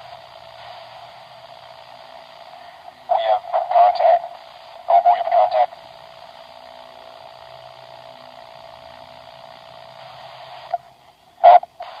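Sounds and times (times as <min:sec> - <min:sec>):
faint steady hum: 0:00.0 - 0:12.0
thin static hiss: 0:00.0 - 0:12.0.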